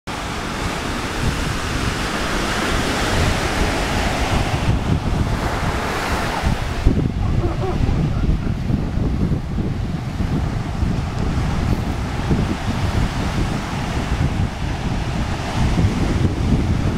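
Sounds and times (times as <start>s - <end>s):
ocean surf on beach: 0.1s - 16.9s
wind buffeting microphone: 0.1s - 16.9s.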